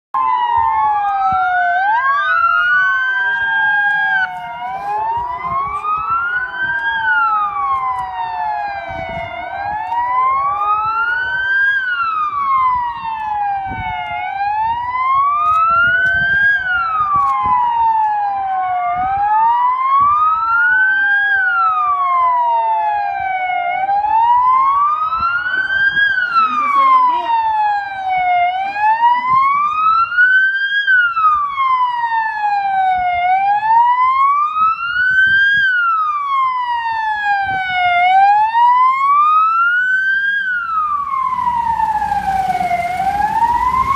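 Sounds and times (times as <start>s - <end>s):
emergency sirens wailing: 0.1s - 43.9s.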